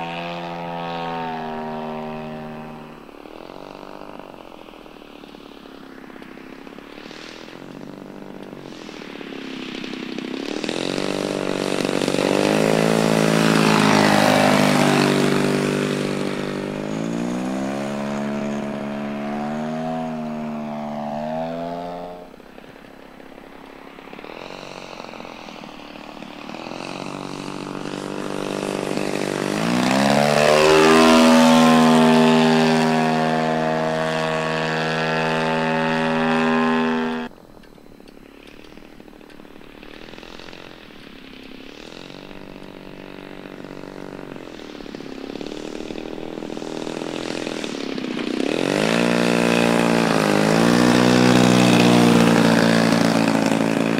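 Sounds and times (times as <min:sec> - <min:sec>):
model airplane engine and propeller: 0:00.0 - 0:53.9.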